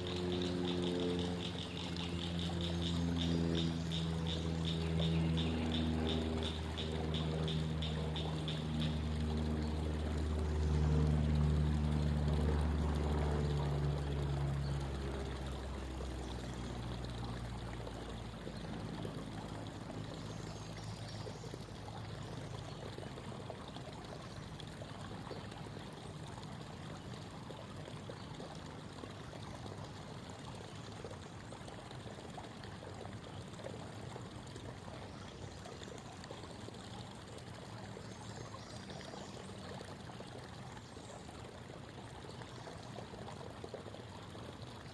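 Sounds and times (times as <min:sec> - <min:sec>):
creek water babbling over stones: 0:00.0 - 0:44.9
low engine drone: 0:00.0 - 0:44.9.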